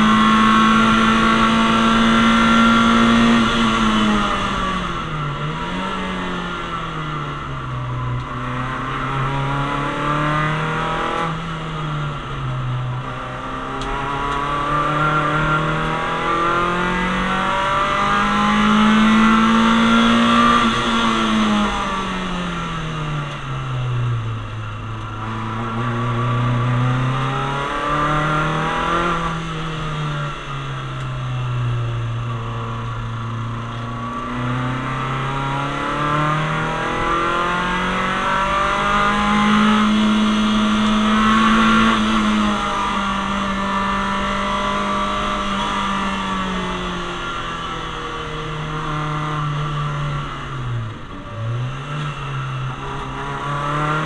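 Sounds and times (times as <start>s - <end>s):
car engine revving through gear changes: 0.0s - 54.0s.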